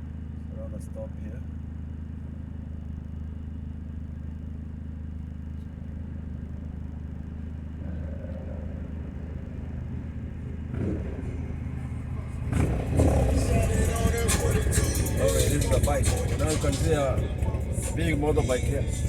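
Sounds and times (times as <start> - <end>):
car engine idling: 0.0 - 19.0
motorbike engine: 0.0 - 19.0.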